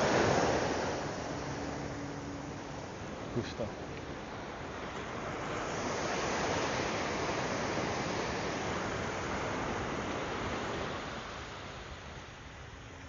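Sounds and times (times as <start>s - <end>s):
wave breaking on beach: 0.0s - 12.8s.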